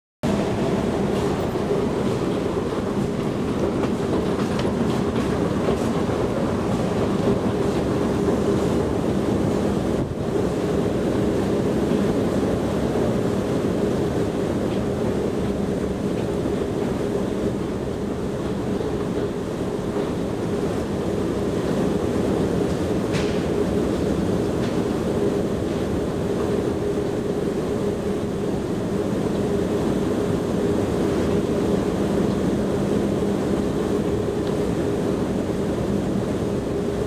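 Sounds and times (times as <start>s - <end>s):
escalator mechanical drone: 0.2s - 37.0s.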